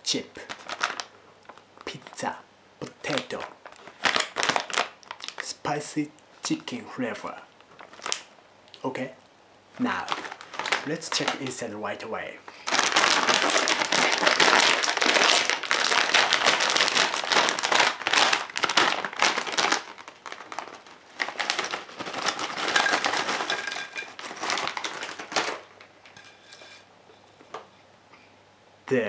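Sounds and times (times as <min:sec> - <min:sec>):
plastic chip bag crinkling: 0:00.1 - 0:05.8, 0:06.4 - 0:08.4, 0:09.8 - 0:26.7.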